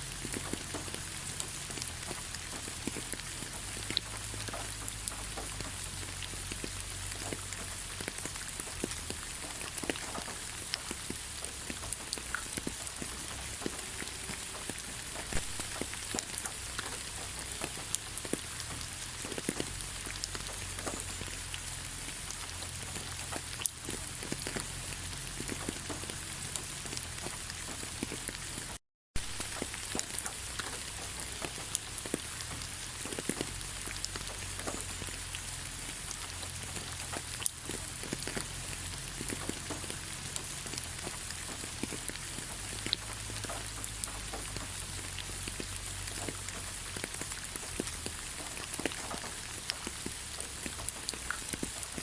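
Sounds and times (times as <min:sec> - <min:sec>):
light rain falling: 0:00.0 - 0:52.0
raindrops ticking on surfaces: 0:00.0 - 0:52.0.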